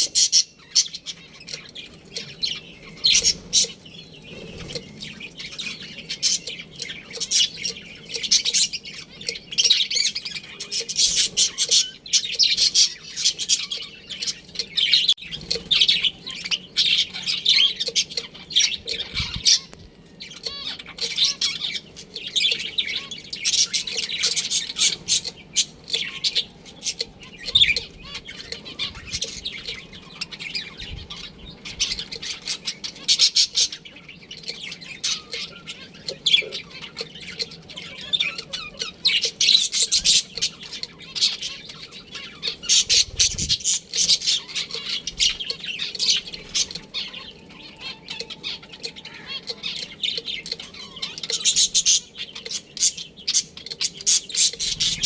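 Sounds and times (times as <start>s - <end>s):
budgerigars chirping: 0.0s - 55.0s.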